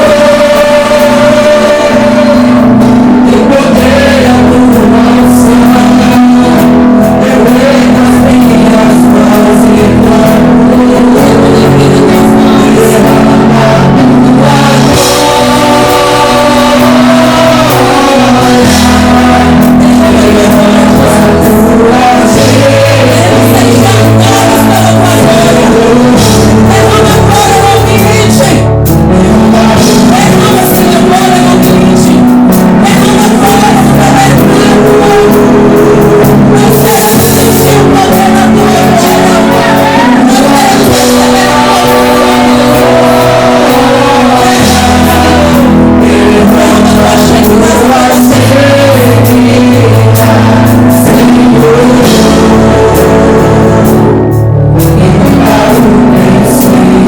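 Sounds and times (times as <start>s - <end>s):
church praise music with singing: 0.0s - 57.0s.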